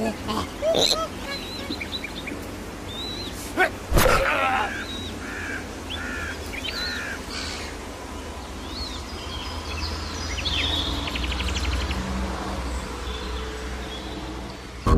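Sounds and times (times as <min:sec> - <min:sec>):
small birds chirping: 0:00.0 - 0:03.8, 0:04.4 - 0:14.9.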